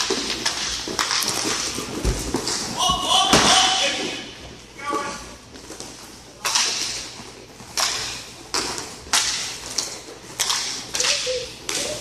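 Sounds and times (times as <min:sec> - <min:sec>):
hockey sticks clacking on puck: 0:00.0 - 0:04.1, 0:04.9 - 0:12.0.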